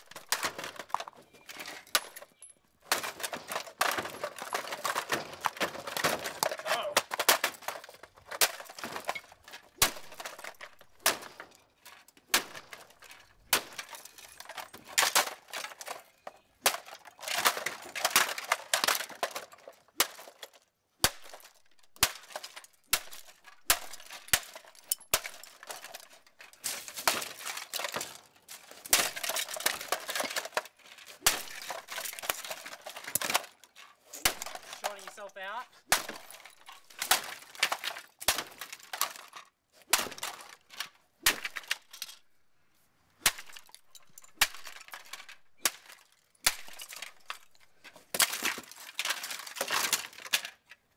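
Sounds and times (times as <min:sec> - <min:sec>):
broken pieces clattering on concrete: 0:00.0 - 0:20.6, 0:21.3 - 0:39.6, 0:43.6 - 0:50.8
plastic cracking: 0:00.0 - 0:42.3.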